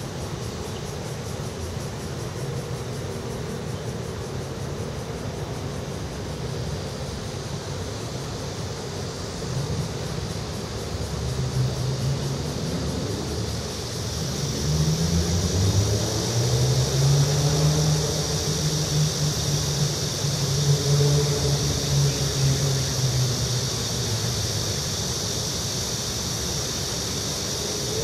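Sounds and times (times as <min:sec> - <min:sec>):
high-pitched hiss: 0:00.0 - 0:28.0
passing traffic rumble: 0:00.0 - 0:28.0.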